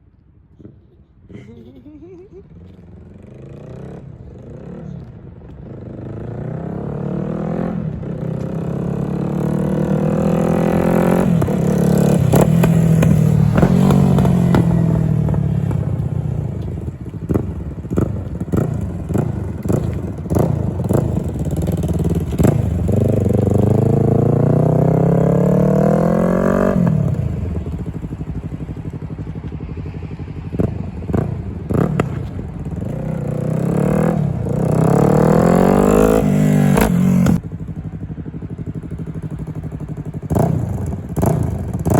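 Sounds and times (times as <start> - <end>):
motorcycle engine accelerating: 1.6 - 41.9.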